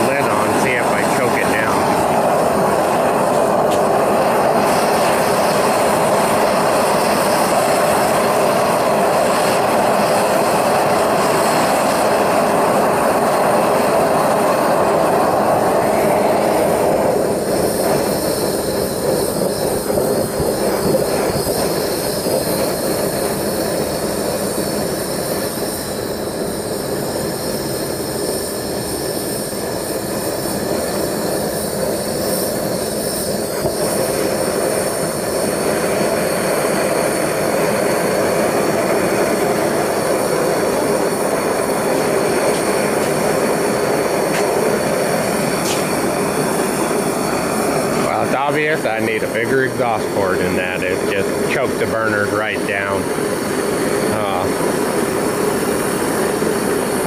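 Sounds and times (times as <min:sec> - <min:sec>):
propane burners rushing hiss: 0:00.0 - 0:57.0.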